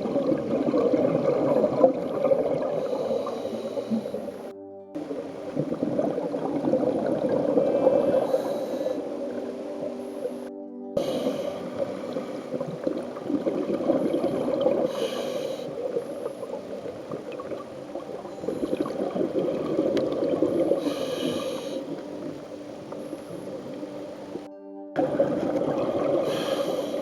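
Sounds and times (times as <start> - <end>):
scuba diver breathing underwater: 0.0 - 4.5, 5.6 - 27.0
bubbly gurgle of air: 0.0 - 10.5, 11.1 - 27.0.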